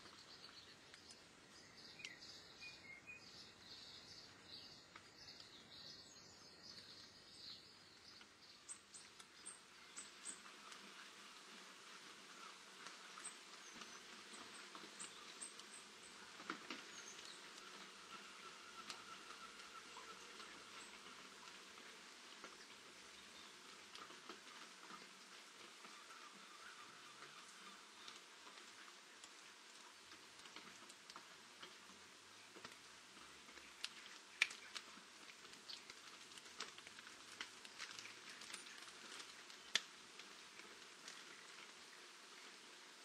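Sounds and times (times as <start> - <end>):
light rain hiss: 0.0 - 43.0
raindrop taps: 8.0 - 42.7.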